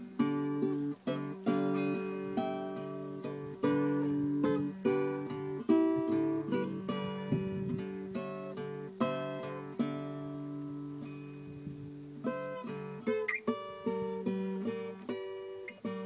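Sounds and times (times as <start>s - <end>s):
acoustic guitar chords strummed: 0.0s - 16.0s.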